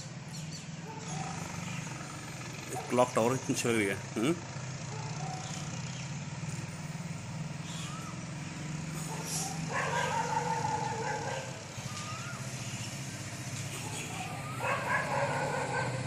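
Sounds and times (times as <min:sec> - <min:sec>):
drawn-out whine: 0:00.0 - 0:16.0
traffic hum: 0:00.0 - 0:16.0.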